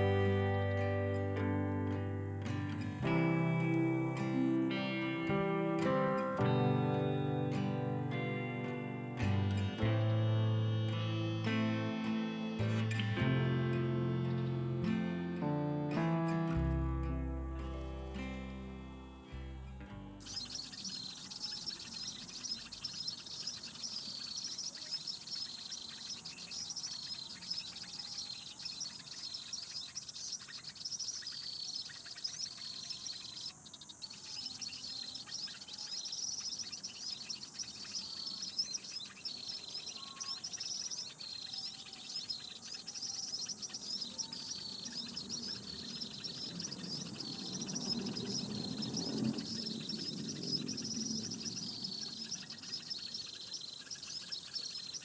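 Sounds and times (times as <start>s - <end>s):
recorded bird chirping call: 0.0s - 55.0s.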